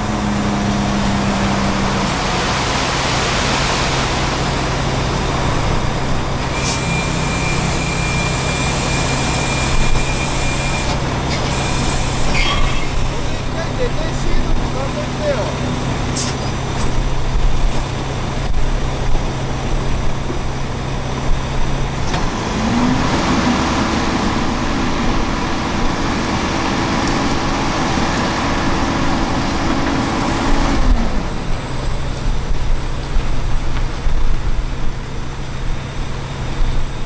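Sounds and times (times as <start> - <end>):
diesel engine idling and revving: 0.0 - 37.0.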